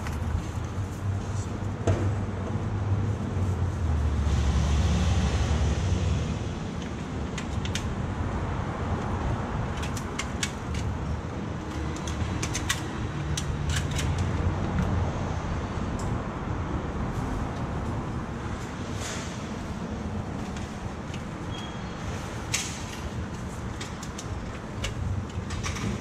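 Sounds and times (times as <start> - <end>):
low street rumble: 0.0 - 26.0.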